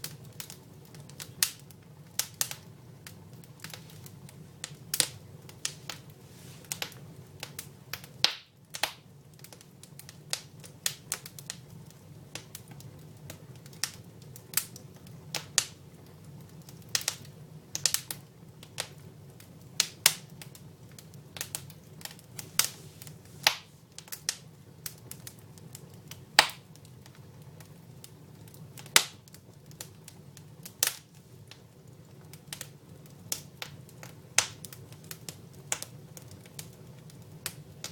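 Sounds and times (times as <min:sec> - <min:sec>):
firewood crackling and popping: 0:00.0 - 0:37.9.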